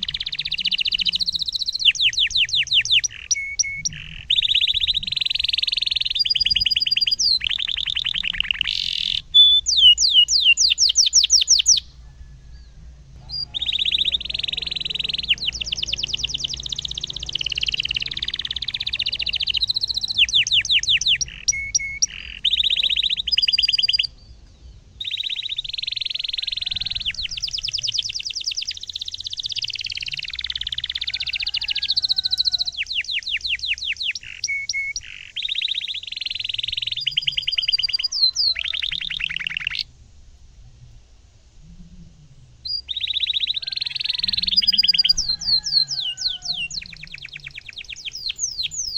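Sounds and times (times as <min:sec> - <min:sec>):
canary singing trills: 0:00.0 - 0:39.9, 0:41.6 - 0:48.9.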